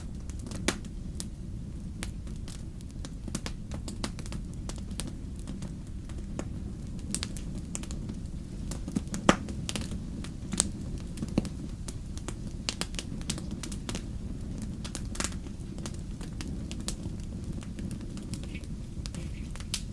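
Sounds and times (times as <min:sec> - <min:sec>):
low rumble of flames: 0:00.0 - 0:19.9
wood fire crackling and popping: 0:00.0 - 0:19.9.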